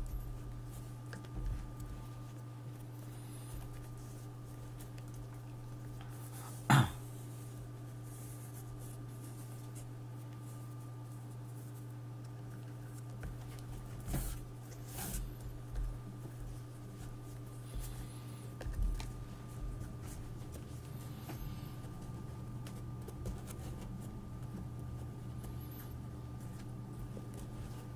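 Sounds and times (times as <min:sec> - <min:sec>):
handling and rubbing noises: 0:00.0 - 0:27.9
low electrical hum: 0:00.0 - 0:27.9.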